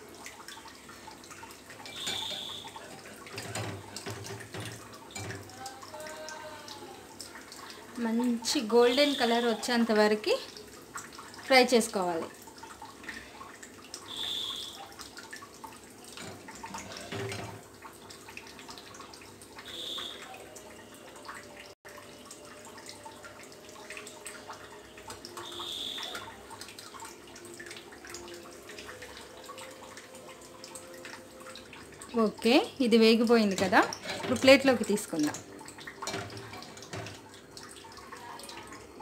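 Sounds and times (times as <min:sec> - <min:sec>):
deep-frying sizzle with crackling pops: 0:00.0 - 0:20.6, 0:21.4 - 0:30.3, 0:30.9 - 0:39.0.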